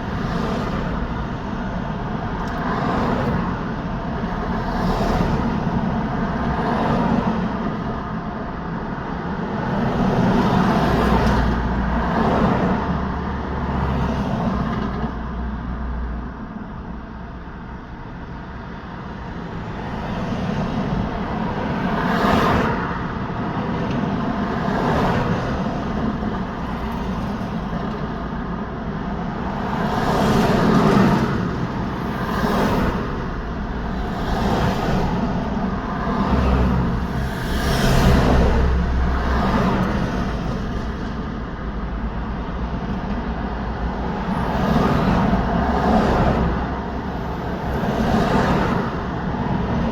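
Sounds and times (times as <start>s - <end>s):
cars and trucks passing: 0.0s - 49.9s.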